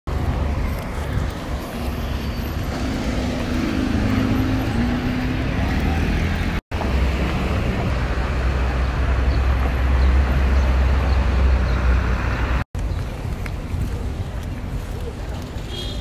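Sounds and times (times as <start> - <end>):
city street traffic: 0.1 - 16.0.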